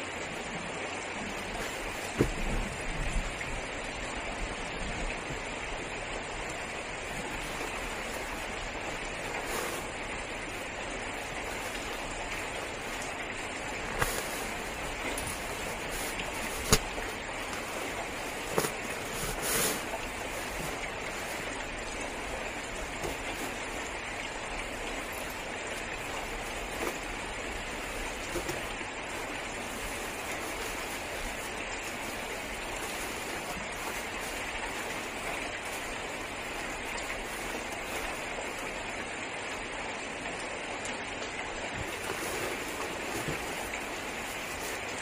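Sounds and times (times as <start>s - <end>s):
heavy rain on car roof: 0.0s - 45.0s.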